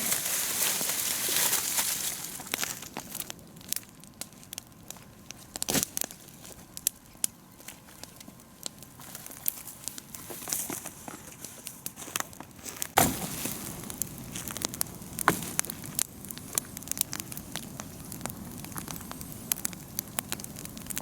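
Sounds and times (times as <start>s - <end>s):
fire crackling: 0.0s - 21.0s.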